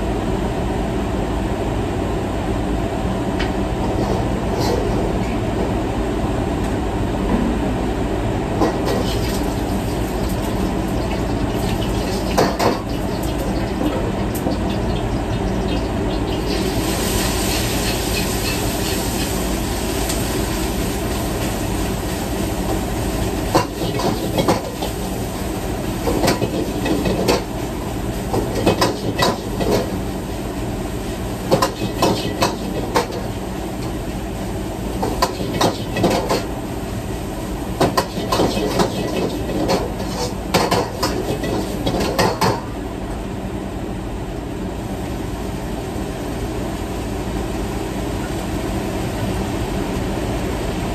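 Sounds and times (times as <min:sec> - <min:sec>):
wok range and exhaust hood noise: 0:00.0 - 0:50.9.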